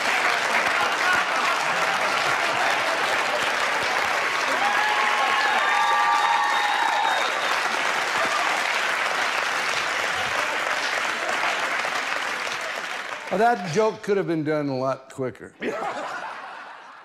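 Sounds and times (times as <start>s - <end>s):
studio audience applauding: 0.0s - 14.3s.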